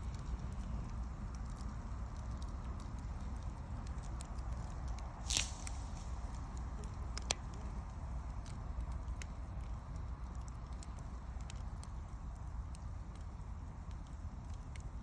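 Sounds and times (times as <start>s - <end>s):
low rush of fire: 0.0s - 15.0s
wood fire crackling and popping: 0.0s - 15.0s.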